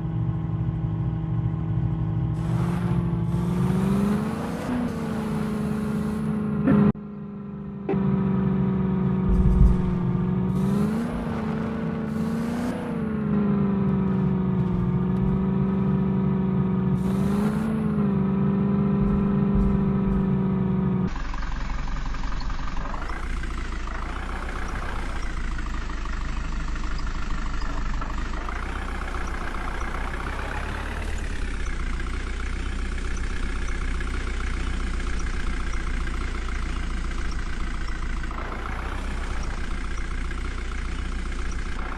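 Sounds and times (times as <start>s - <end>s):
heavy diesel engine running: 0.0s - 41.9s
rough engine noise: 0.0s - 41.9s.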